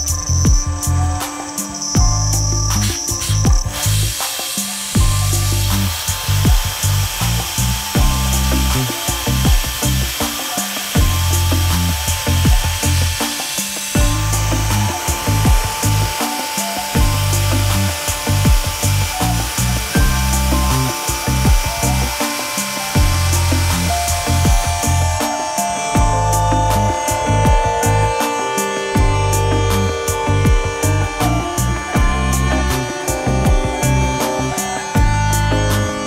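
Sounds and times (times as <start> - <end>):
milling machine cutting metal: 0.0 - 36.0
music with steady beat: 0.0 - 36.0.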